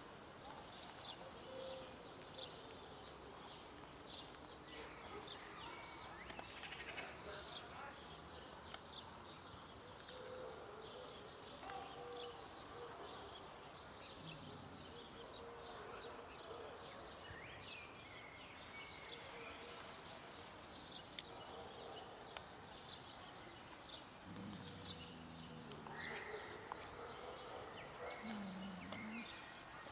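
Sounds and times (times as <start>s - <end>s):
faint outdoor background noise: 0.0s - 29.9s.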